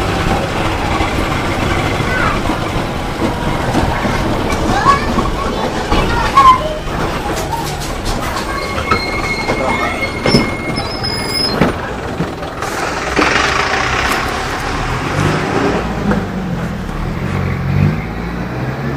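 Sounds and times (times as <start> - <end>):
bus knocks and rattles: 0.0 - 18.2
bus diesel engine running: 0.0 - 18.9.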